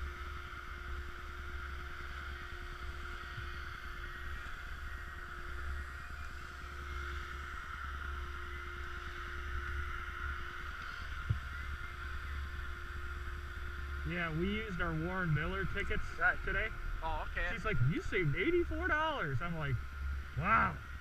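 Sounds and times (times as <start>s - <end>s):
mechanical drone: 0.0s - 21.0s.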